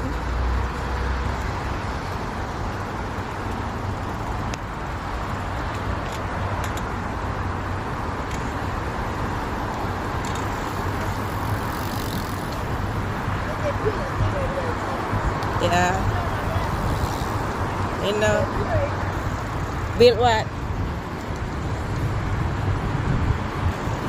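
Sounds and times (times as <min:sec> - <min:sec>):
road traffic roar: 0:00.0 - 0:24.0.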